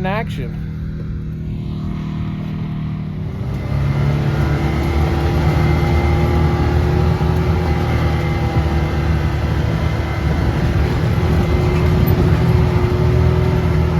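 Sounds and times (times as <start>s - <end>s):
vehicle engine accelerating: 0.0s - 13.9s.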